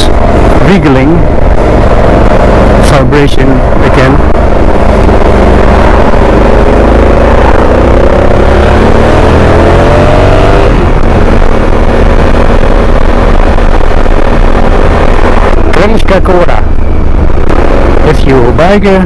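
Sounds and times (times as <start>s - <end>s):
wind rushing: 0.0s - 18.6s
motorcycle engine accelerating: 0.0s - 19.0s.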